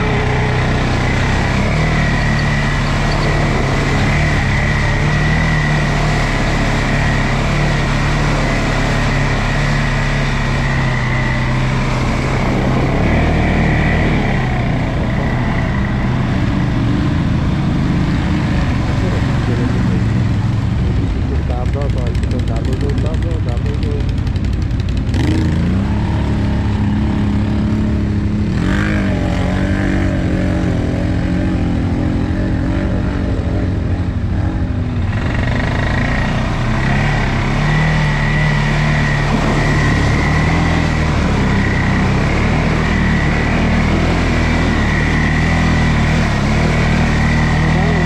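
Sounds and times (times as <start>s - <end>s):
atv engine running: 0.0s - 48.0s
high whine: 0.0s - 48.0s.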